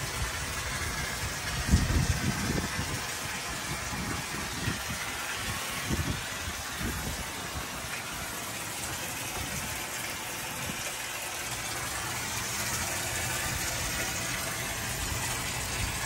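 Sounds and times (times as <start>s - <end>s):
hose spraying water: 0.0s - 16.0s.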